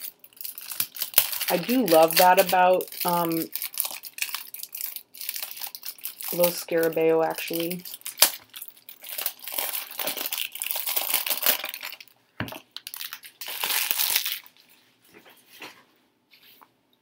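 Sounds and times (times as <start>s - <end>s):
plastic wrap crinkling: 0.0s - 15.8s.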